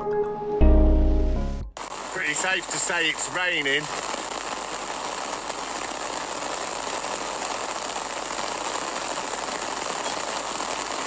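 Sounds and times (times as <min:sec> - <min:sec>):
heavy rain pelting down: 0:01.8 - 0:11.0.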